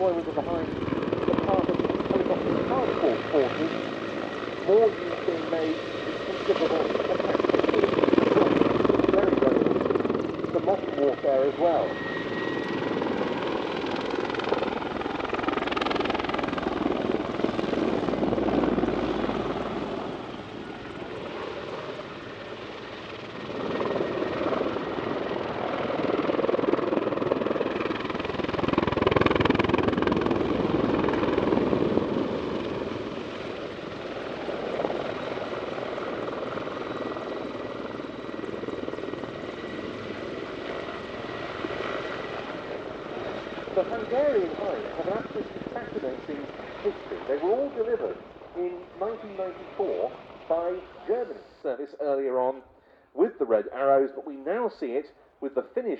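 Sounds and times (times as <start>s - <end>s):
helicopter rotors and engines: 0.0s - 55.9s.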